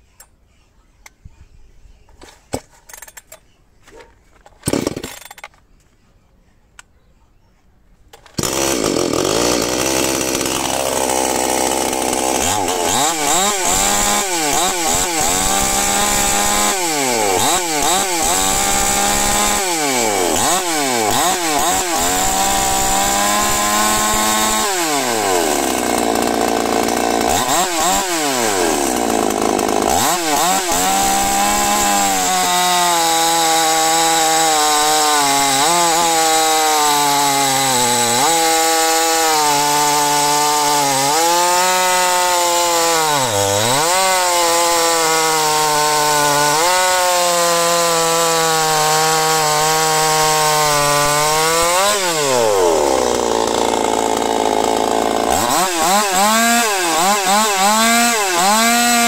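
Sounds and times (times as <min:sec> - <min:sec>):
chainsaw cutting wood: 0:04.6 - 0:05.5, 0:08.1 - 0:59.0.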